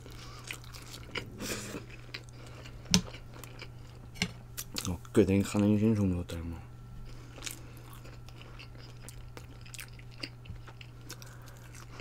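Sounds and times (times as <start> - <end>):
person chewing food: 0.0 - 5.1, 7.0 - 12.0
steady low hum: 0.0 - 12.0.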